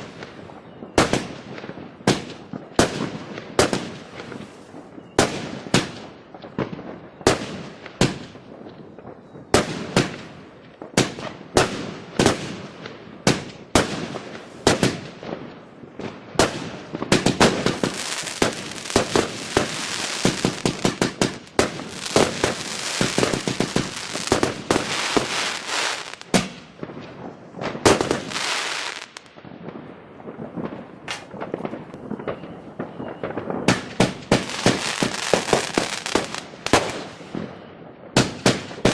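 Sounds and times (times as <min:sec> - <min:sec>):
fireworks bangs and crackle: 0:00.0 - 0:38.9.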